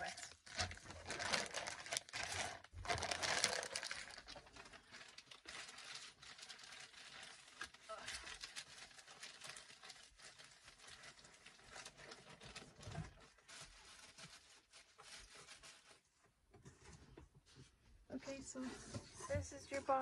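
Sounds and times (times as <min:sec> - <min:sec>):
packing materials rustling: 0:00.0 - 0:16.0.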